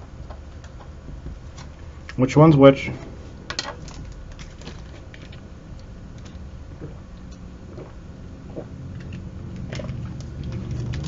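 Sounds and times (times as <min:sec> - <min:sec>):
air conditioner rumbling: 0:00.0 - 0:11.0.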